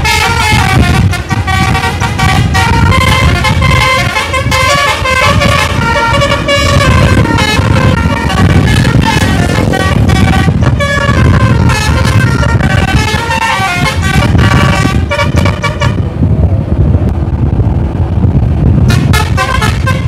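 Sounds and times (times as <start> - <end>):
multi-tone air horn: 0.0 - 16.1, 18.9 - 20.0
bus engine rumble: 0.0 - 20.0.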